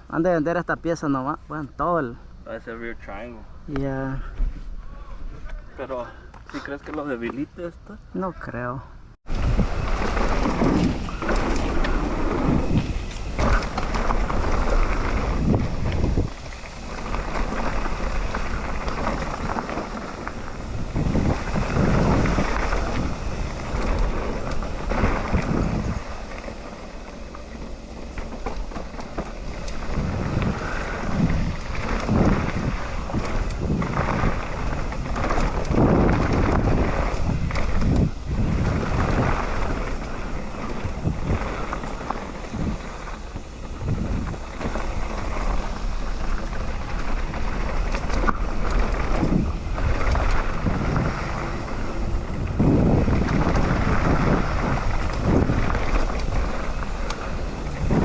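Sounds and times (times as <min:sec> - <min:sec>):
wind buffeting microphone: 0:09.2 - 0:58.0.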